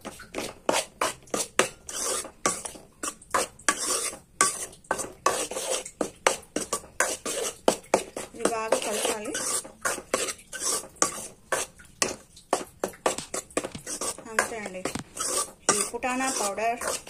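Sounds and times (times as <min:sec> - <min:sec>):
spoon clinking and scraping pan: 0:00.0 - 0:17.0.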